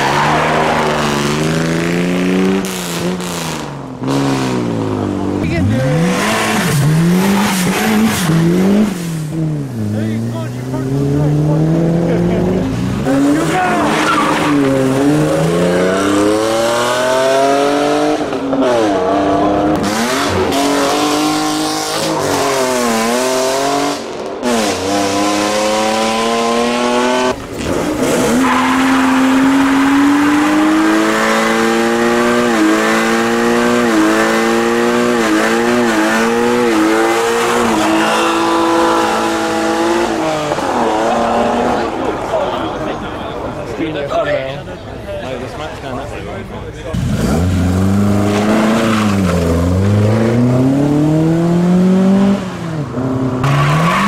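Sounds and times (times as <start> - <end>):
car engine revving: 0.0 - 43.9, 46.8 - 54.0.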